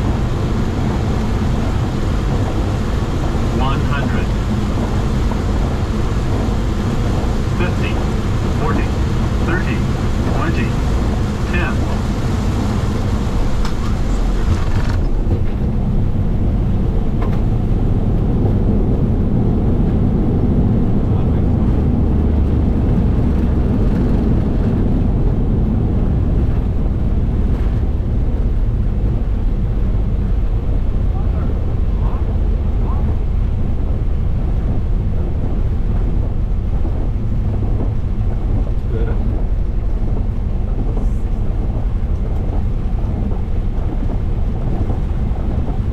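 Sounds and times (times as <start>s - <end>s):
cockpit engine rumble: 0.0s - 45.9s.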